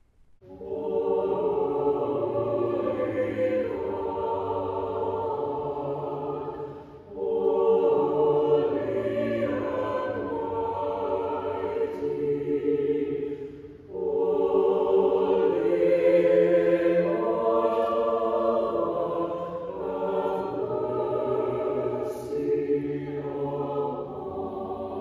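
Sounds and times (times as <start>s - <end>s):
mixed choir singing: 0.4s - 25.0s.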